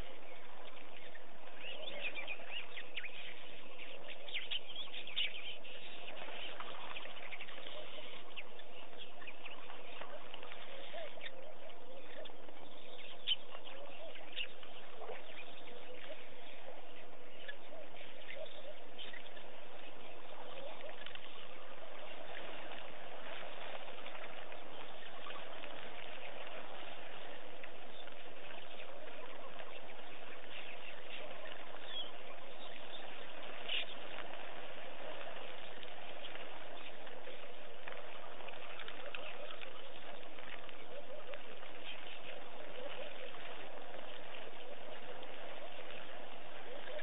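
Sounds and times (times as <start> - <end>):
background hiss: 0.0 - 47.0
small birds chirping: 0.0 - 47.0.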